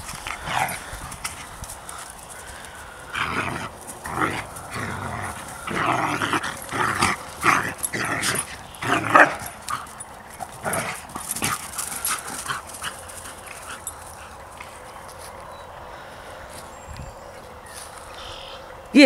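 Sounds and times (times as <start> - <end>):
dogs play-fighting: 0.0 - 15.9.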